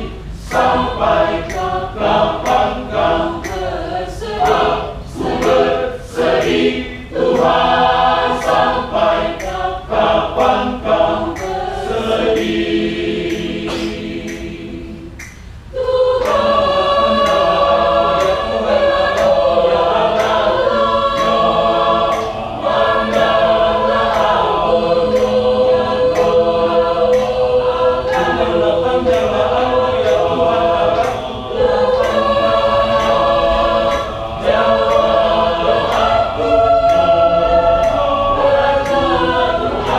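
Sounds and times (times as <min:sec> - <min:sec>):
choir singing: 0:00.0 - 0:39.9
faint steady clicks: 0:00.2 - 0:37.2, 0:37.8 - 0:39.9.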